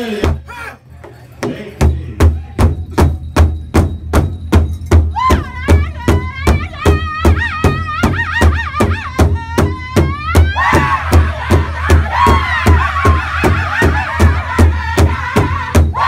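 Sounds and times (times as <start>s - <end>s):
large drum beating steadily: 0.2s - 16.0s.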